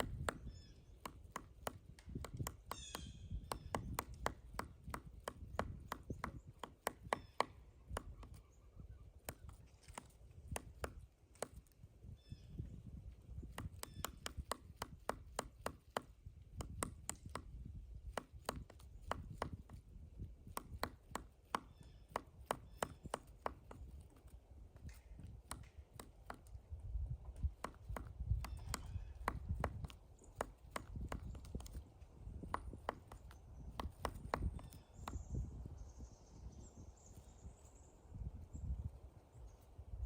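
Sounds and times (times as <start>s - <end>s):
woodpecker knocking on wood: 0.0s - 8.5s, 9.2s - 11.7s, 13.3s - 26.6s, 27.3s - 35.5s.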